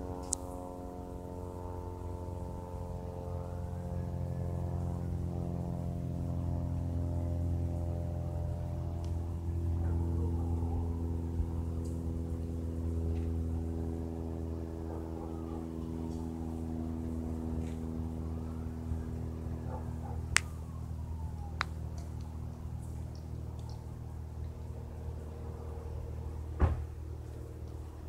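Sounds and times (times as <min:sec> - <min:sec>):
propeller plane droning: 0:00.0 - 0:28.0.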